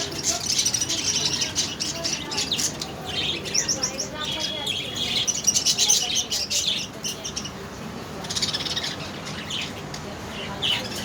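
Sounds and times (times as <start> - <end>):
budgerigars chirping: 0.0 - 7.6, 8.2 - 11.0.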